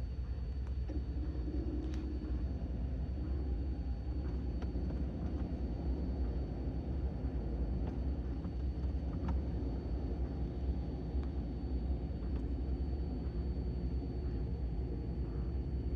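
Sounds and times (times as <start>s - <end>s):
car ventilation fan running: 0.0s - 15.9s
faint droning tone: 0.0s - 15.9s.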